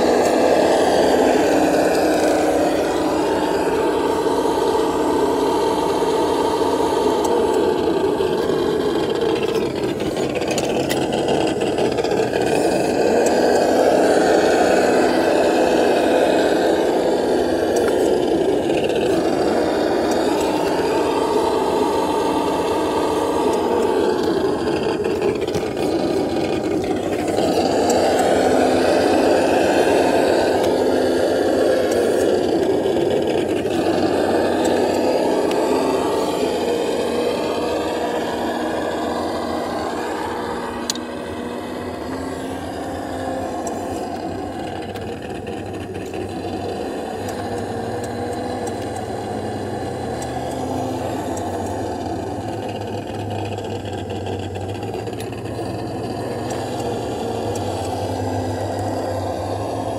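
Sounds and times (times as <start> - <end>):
toy car electric motor whirring: 0.0 - 59.9.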